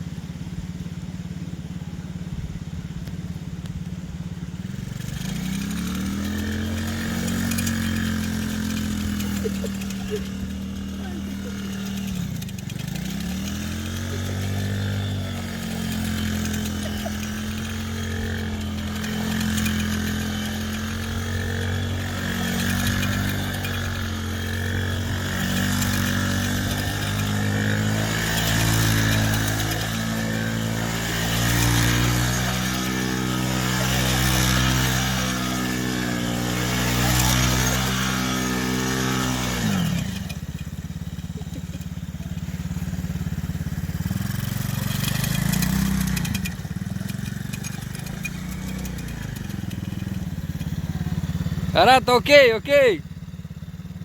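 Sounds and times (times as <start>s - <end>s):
small four-stroke engine running: 0.0s - 54.0s.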